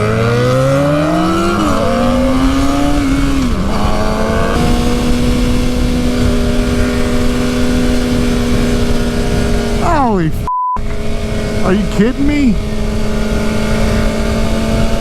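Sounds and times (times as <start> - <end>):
low wind rumble: 0.0 - 15.0
motorcycle engine accelerating: 0.0 - 15.0.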